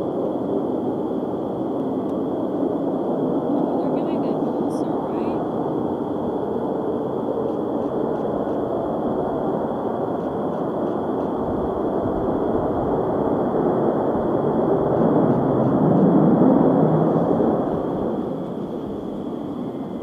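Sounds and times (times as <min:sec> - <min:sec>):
distant jet engine rushing: 0:00.0 - 0:20.0.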